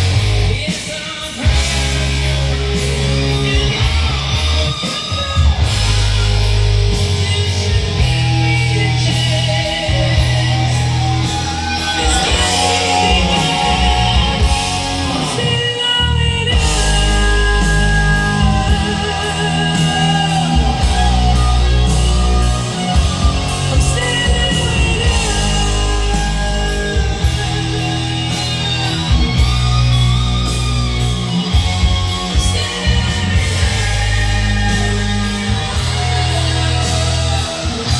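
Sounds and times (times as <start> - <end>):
loud music with singing and bass: 0.0 - 37.9.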